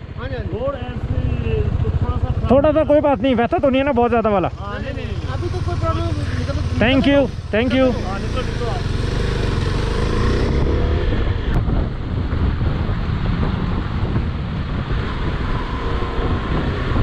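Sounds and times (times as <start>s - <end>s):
motorcycle engine: 0.0s - 17.0s
wind and road noise: 0.0s - 17.0s.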